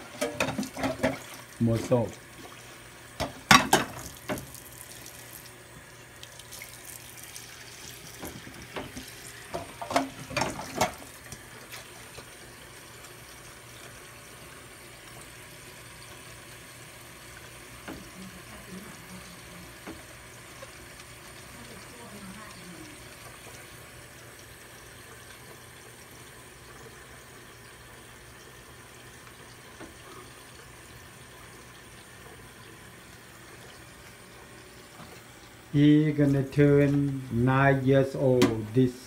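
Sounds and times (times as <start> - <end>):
water running in sink: 0.0 - 39.0.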